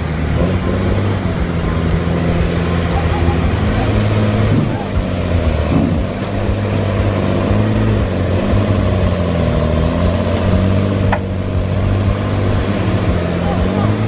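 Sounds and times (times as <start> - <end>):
large engine running: 0.0 - 14.0.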